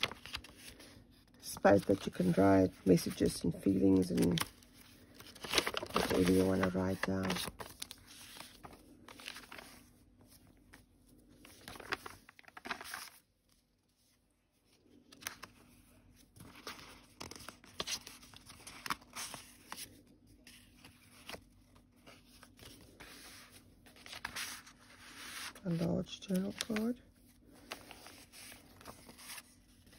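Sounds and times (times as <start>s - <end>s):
paper pages rustling: 0.0s - 29.9s.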